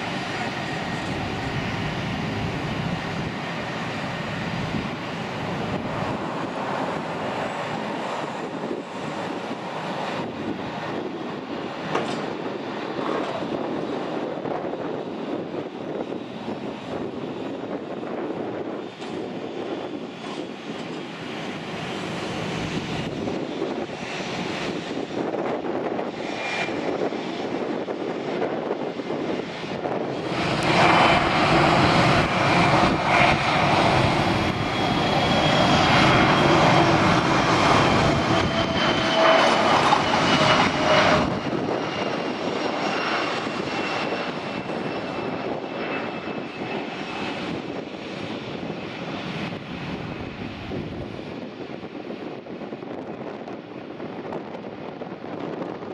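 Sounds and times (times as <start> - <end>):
high jet whine: 0.0 - 55.9
jet engine rumble: 0.0 - 55.9.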